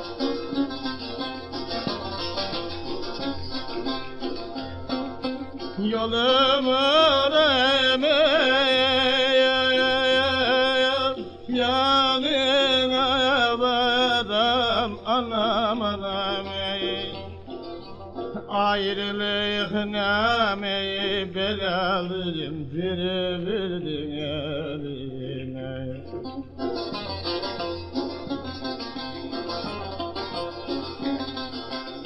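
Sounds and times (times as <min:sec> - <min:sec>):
instrumental accompaniment: 0:00.0 - 0:22.3, 0:24.0 - 0:32.0
man singing folk song: 0:04.9 - 0:17.6, 0:18.2 - 0:32.0.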